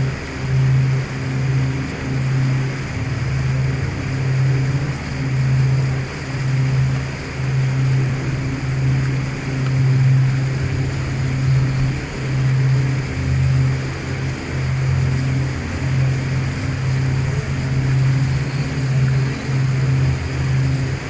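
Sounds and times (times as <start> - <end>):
boat engine humming: 0.0 - 21.0
water rushing along hull: 0.0 - 21.0.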